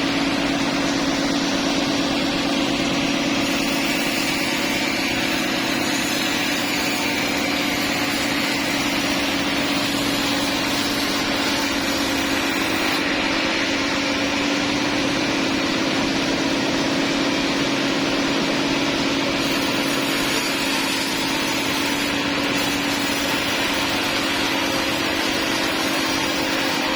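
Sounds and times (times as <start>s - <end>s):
sawmill engine running steadily: 0.0s - 26.9s.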